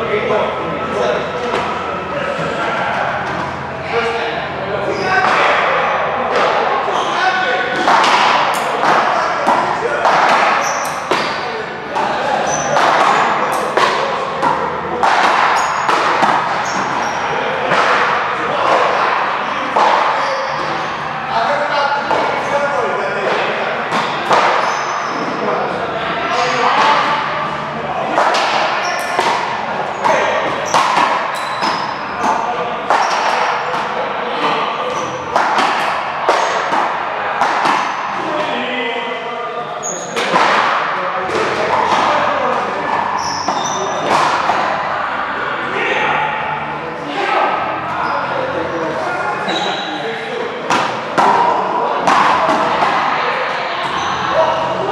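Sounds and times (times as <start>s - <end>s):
ball hits echoing in a hall: 0.0s - 54.9s.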